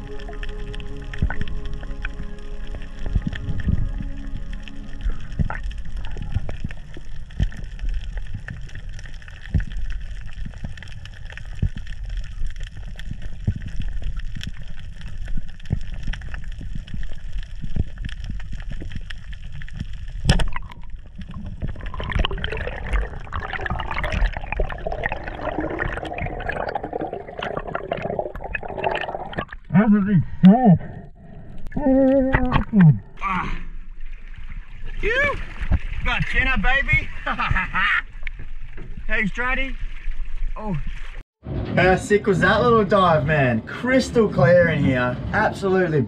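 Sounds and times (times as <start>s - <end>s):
water bubbling and gurgling: 0.0s - 41.2s
underwater rush: 0.0s - 46.0s.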